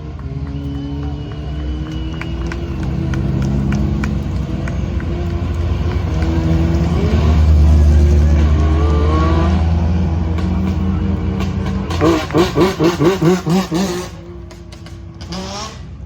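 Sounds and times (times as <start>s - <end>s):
race car engine accelerating: 0.0s - 16.0s.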